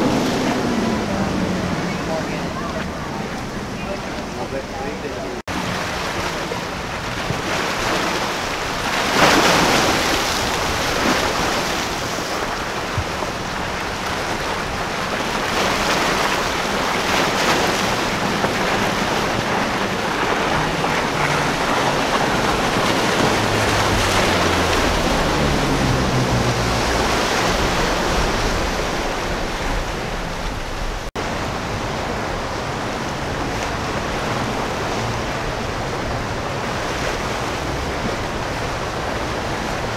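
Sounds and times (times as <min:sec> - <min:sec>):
outboard engines droning: 0:00.0 - 0:39.9
waves washing against rocks: 0:00.0 - 0:39.9
wind buffeting microphone: 0:00.0 - 0:39.9.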